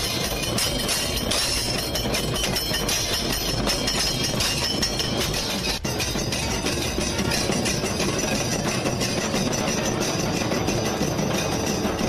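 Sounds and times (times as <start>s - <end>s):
barrel drums beaten fast: 0.0s - 12.0s.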